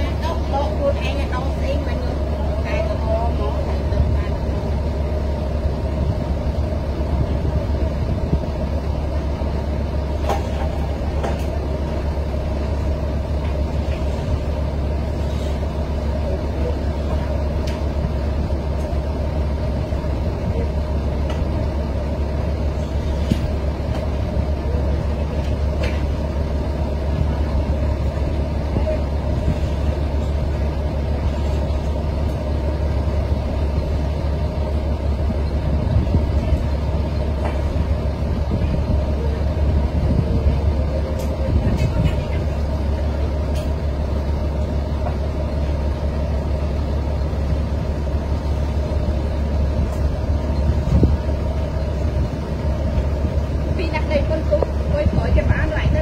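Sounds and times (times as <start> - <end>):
diesel train engine idling: 0.0 - 56.0.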